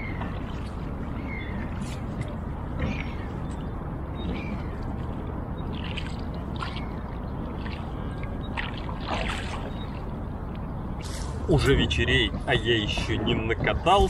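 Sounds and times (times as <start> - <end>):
oars splashing in water: 0.0 - 11.5.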